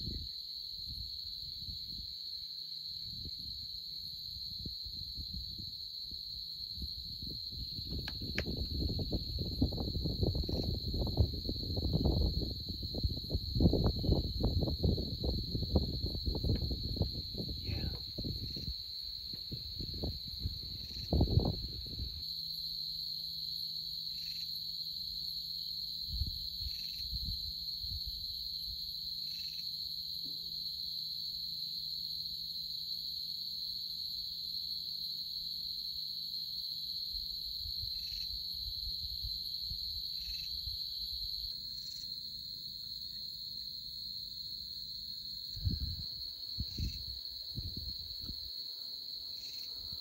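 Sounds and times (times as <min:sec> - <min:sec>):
insect chorus drone: 0:00.0 - 0:50.0
short insect chirps: 0:00.0 - 0:50.0.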